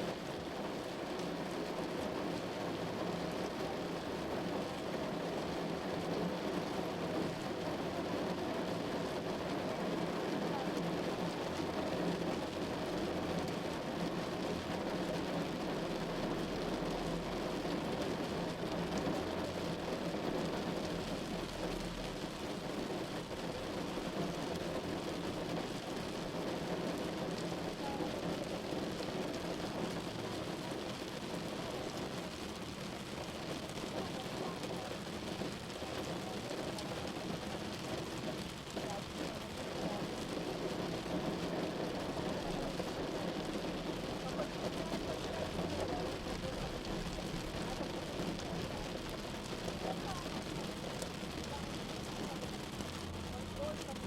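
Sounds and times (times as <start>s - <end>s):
rain on a car roof: 0.0s - 54.0s.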